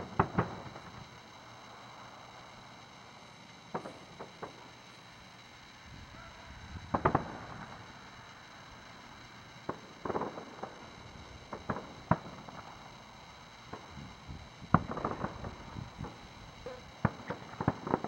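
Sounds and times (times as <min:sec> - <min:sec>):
distant fireworks bursting: 0:00.0 - 0:18.0.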